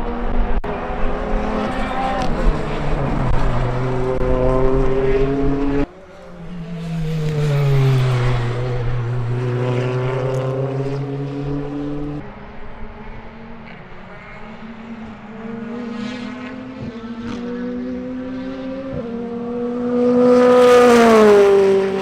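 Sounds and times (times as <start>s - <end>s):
race car passing by: 0.0s - 22.0s
racing car engine: 0.0s - 22.0s.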